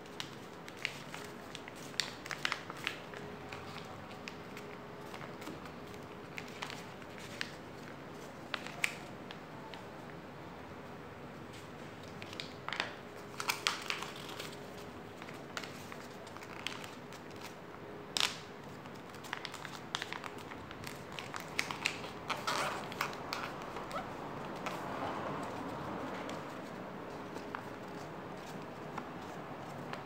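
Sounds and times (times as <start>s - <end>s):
paper crinkling and crackling: 0.0s - 9.9s, 11.5s - 30.0s.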